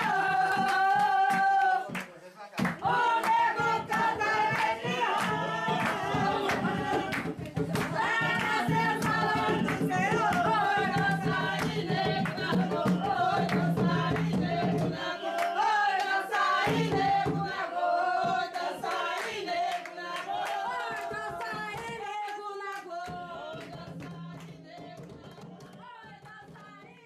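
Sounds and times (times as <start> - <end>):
hand drums beating: 0.0 - 2.0, 2.6 - 15.2, 16.4 - 19.8, 20.4 - 27.0
group of voices singing: 0.0 - 27.0.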